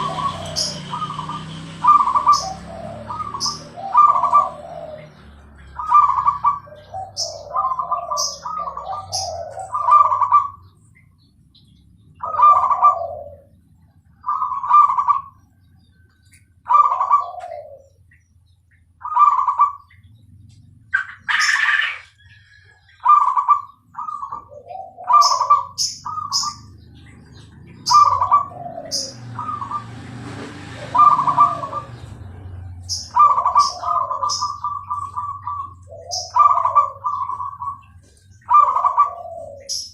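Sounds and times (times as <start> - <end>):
dove cooing: 0.0 - 11.0, 12.2 - 18.3, 19.0 - 39.9
small bird chirping: 0.0 - 39.9.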